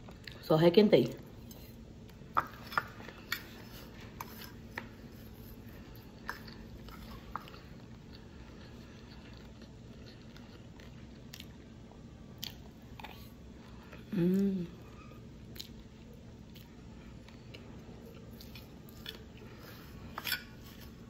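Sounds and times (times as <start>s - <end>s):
close chewing of food: 1.3s - 21.0s.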